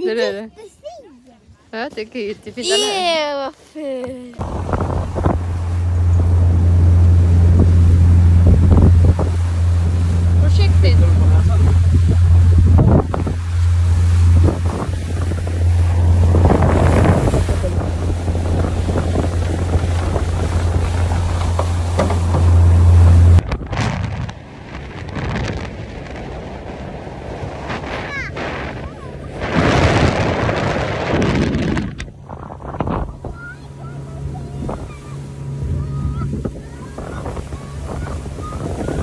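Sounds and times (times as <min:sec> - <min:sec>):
water rushing past hull: 0:02.5 - 0:39.0
motorboat engine droning: 0:04.4 - 0:39.0
wind buffeting microphone: 0:04.4 - 0:39.0.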